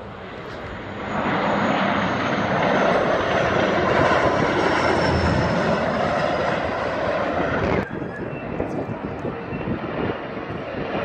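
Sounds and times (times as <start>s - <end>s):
airliner engines rushing overhead: 0.0s - 11.0s
faint high engine whine: 0.0s - 11.0s.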